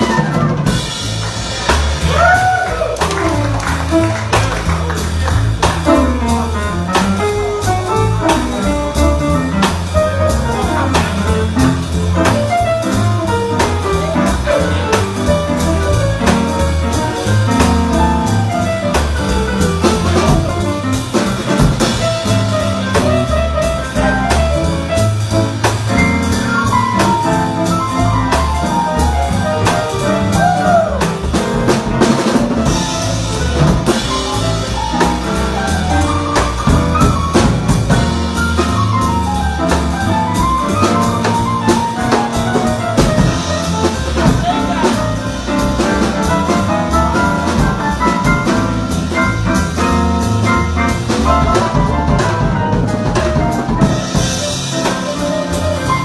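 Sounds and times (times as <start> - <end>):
drum kit and bass: 0.0 - 56.0
instrumental jazz: 0.0 - 56.0
lead melody: 0.0 - 56.0.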